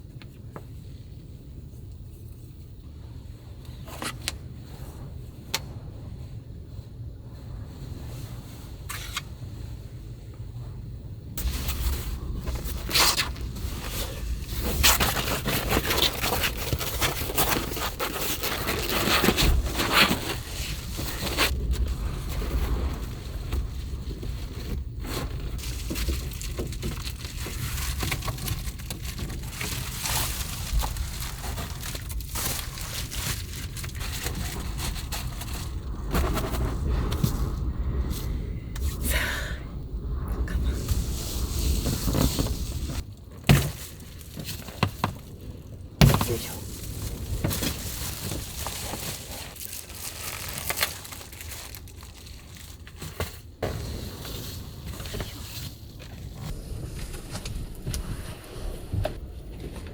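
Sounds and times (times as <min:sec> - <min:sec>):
low wind rumble: 0:00.0 - 0:59.9.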